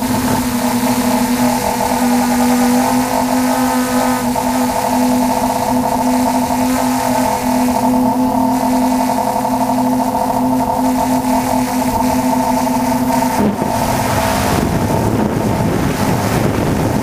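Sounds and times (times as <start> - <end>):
quadcopter propellers whirring: 0.0 - 17.0.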